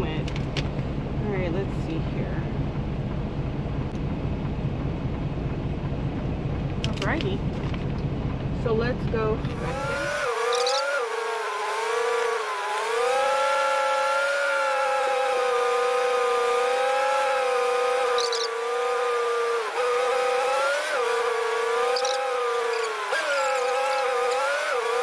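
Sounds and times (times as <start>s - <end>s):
truck engine whine: 0.0s - 25.0s.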